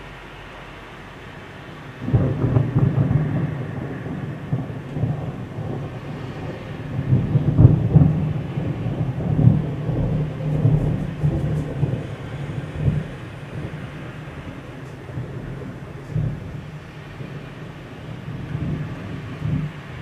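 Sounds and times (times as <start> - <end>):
rolling thunder: 1.9 - 20.0.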